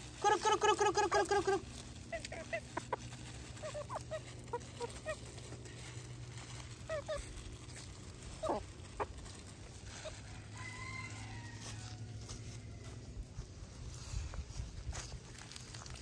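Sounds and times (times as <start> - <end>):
chickens clucking and chirping: 0.0 - 15.5.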